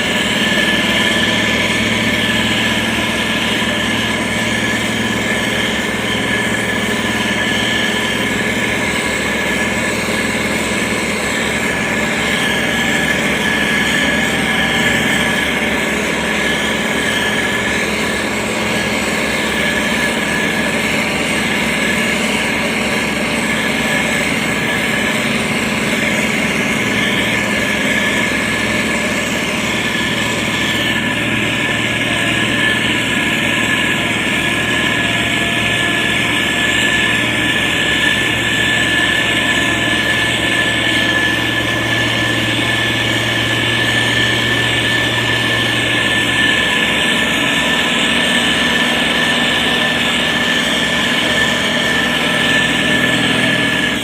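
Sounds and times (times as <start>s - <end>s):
diesel engine droning: 0.0s - 54.0s
whining tones: 0.0s - 54.0s.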